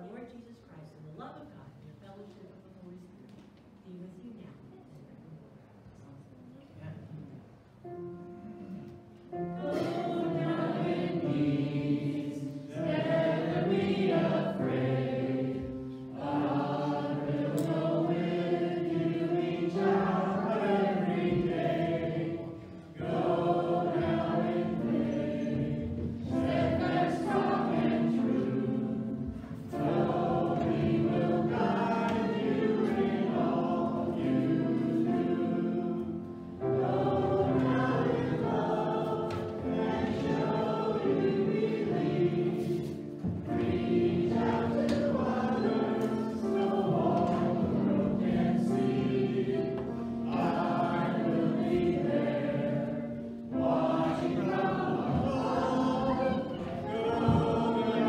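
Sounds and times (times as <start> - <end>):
group singing a hymn: 7.8 - 58.0.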